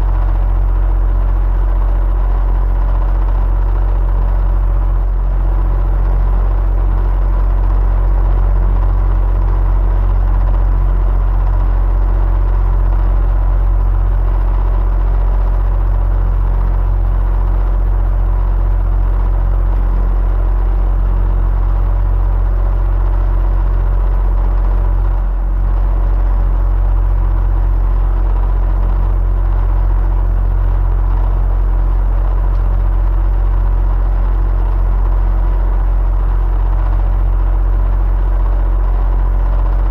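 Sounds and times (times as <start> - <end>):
electric fan motor rumble: 0.0 - 39.9
faint steady hum: 0.0 - 39.9.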